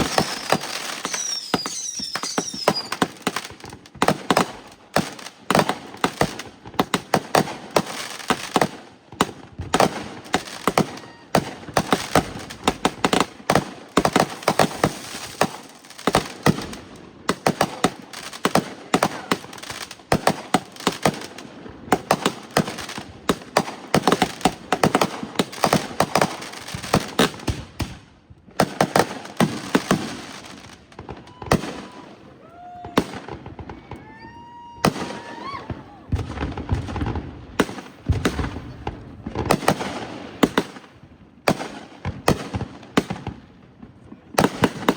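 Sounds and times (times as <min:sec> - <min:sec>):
fireworks cracking and banging: 0:00.0 - 0:44.9.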